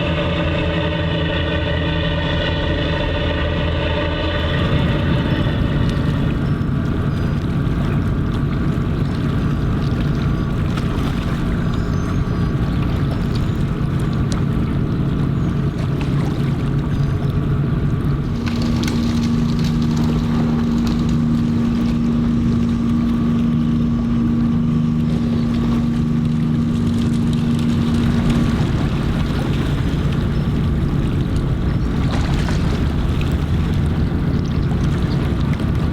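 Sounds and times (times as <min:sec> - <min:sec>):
ship engine drone: 0:00.0 - 0:35.9
steady hum tone: 0:00.0 - 0:35.9
water noise: 0:00.0 - 0:35.9
wind: 0:00.0 - 0:35.9.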